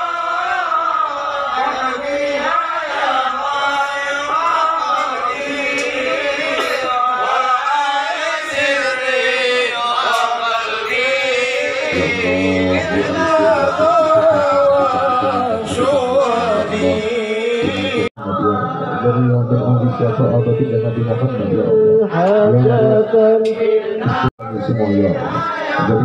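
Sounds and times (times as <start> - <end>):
men chanting devotional verses: 0.0 - 26.0.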